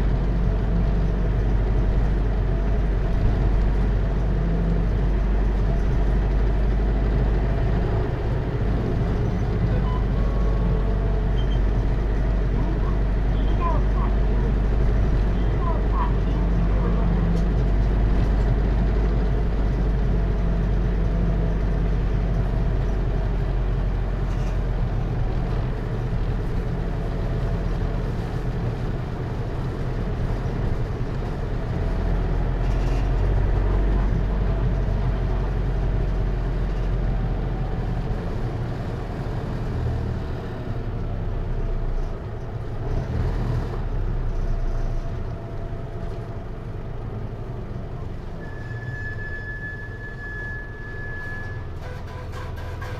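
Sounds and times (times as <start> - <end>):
diesel engine low drone: 0.0 - 52.9.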